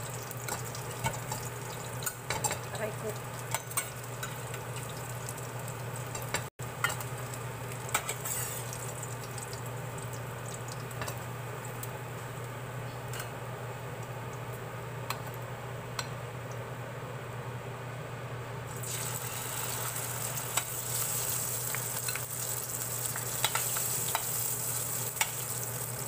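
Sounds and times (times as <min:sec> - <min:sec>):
oil sizzling in frying pan: 0:00.0 - 0:16.6, 0:18.7 - 0:26.0.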